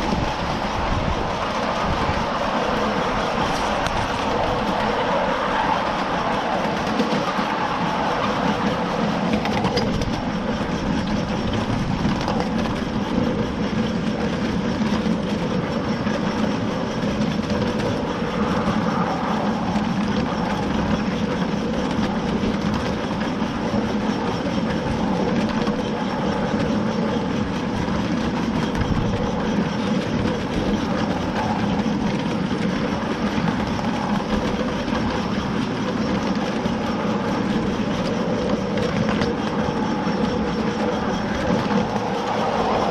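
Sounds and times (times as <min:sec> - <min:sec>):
train wheels rolling on track: 0:00.0 - 0:42.9.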